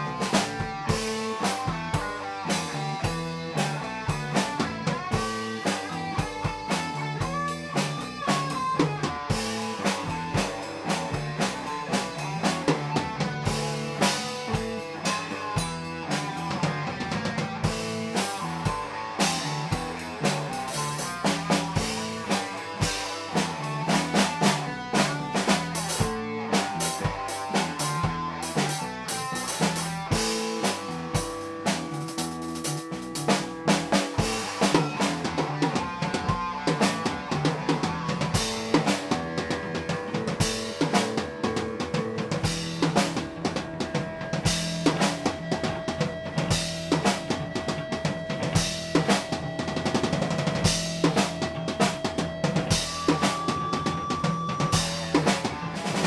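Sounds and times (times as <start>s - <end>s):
drum kit steady beat: 0.0s - 56.0s
guitar: 0.0s - 56.0s.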